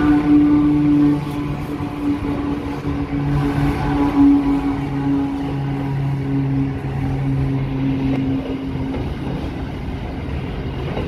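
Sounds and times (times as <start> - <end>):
diesel locomotive engine drone: 0.0 - 11.0
wagons rumbling and clattering on rails: 0.0 - 11.0.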